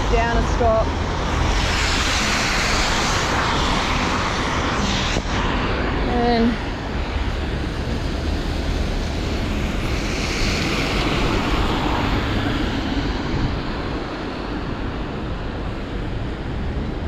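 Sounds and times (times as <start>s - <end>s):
low traffic rumble: 0.0s - 17.0s
vehicle tyres hissing on wet road: 0.0s - 17.0s.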